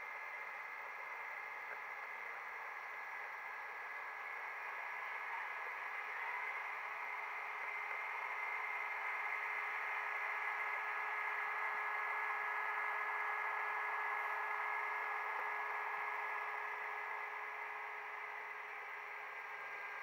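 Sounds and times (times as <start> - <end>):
model train whirring on track: 0.0 - 20.0.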